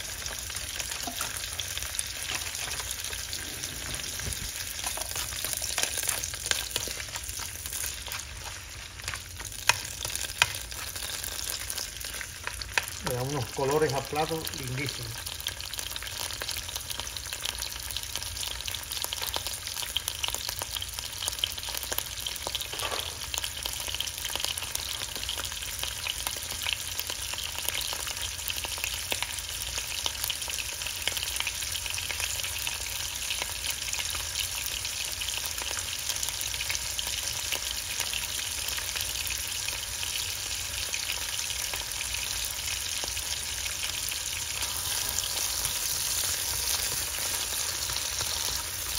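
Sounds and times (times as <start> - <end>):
vegetables sizzling in a pan: 0.0 - 48.9.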